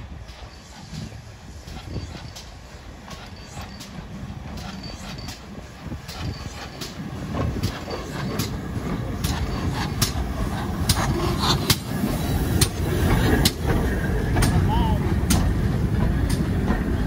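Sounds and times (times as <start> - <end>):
steam locomotive running slowly: 0.0 - 17.0.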